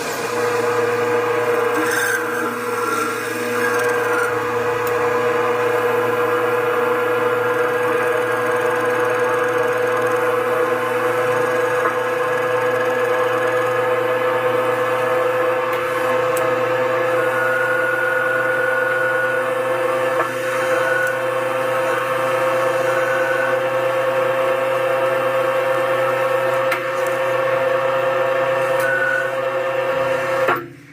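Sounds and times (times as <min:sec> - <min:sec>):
machine motor humming: 0:00.0 - 0:30.7.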